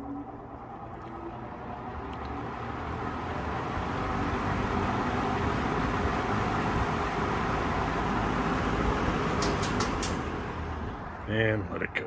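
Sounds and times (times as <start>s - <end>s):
box fan running: 0.0s - 11.7s.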